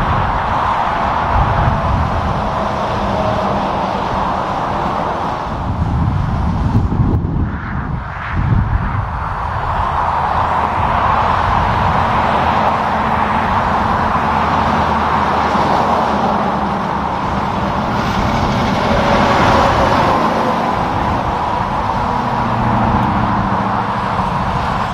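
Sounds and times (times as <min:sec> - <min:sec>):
diesel engines droning: 0:00.0 - 0:24.9.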